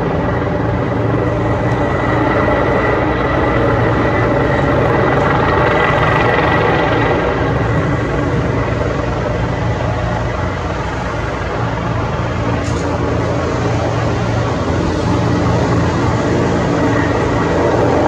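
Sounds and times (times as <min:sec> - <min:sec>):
helicopter engine whine: 0:00.0 - 0:18.0
helicopter rotor beat: 0:00.0 - 0:18.0.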